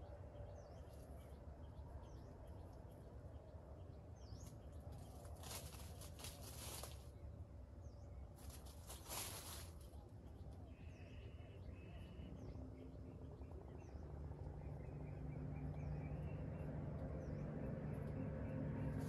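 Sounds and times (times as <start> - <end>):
birds chirping: 0.0 - 19.0
low steady hum: 0.0 - 19.0.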